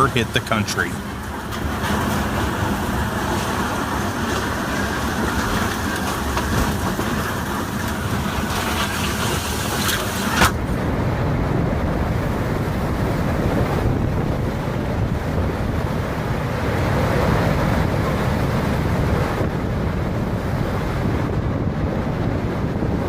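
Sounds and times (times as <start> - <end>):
wind noise on microphone: 1.0 - 23.0.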